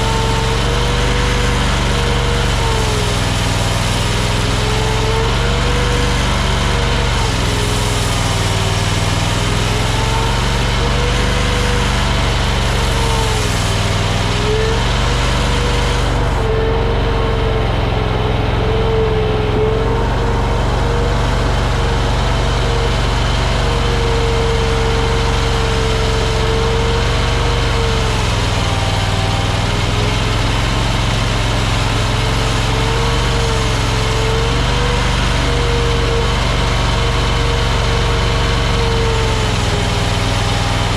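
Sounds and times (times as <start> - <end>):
skid steer engine drone: 0.0 - 40.9
wavering whine: 0.0 - 40.9.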